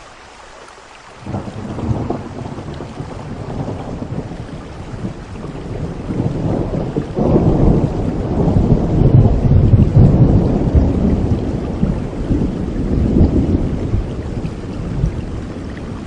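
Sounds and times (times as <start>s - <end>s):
steady rain: 0.0s - 16.0s
deep roll of thunder: 1.2s - 16.0s.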